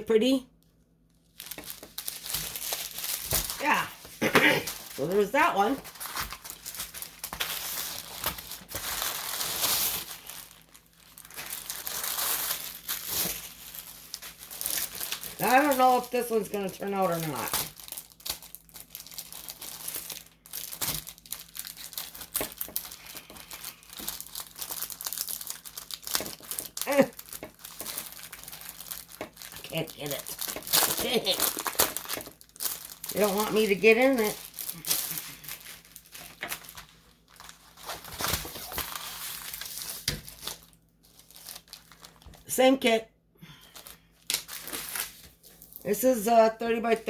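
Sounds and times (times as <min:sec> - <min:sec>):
packaging crinkling: 0:00.6 - 0:42.5, 0:43.6 - 0:45.9.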